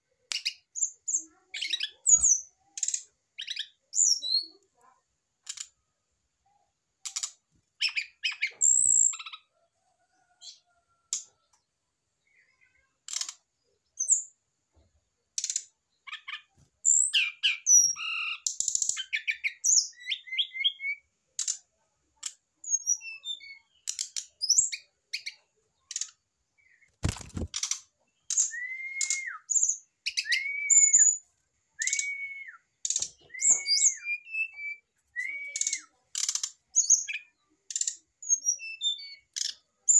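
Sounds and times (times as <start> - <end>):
bird chirps and clicks: 0.2 - 5.8, 7.0 - 9.5, 10.4 - 11.7, 13.0 - 39.9.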